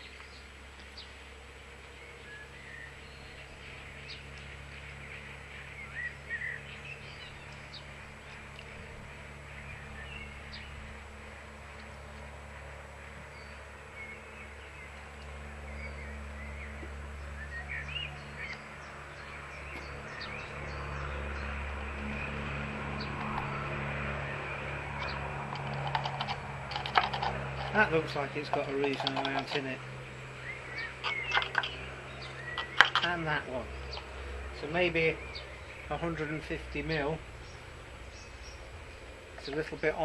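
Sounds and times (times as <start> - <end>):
small birds chirping: 0.0 - 40.0
steady low hum: 0.0 - 40.0.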